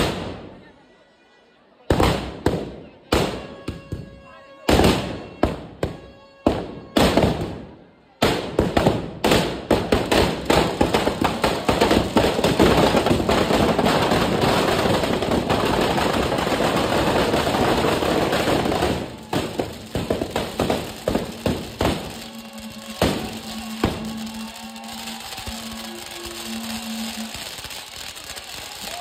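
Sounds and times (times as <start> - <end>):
firecrackers crackling: 0.0 - 0.7, 1.9 - 4.1, 4.7 - 29.0.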